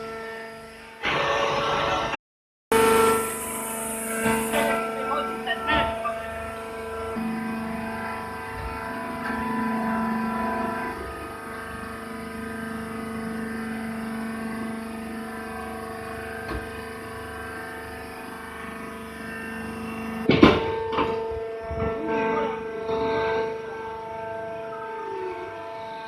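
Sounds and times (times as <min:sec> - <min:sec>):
pump motor humming whine: 0:00.0 - 0:26.0.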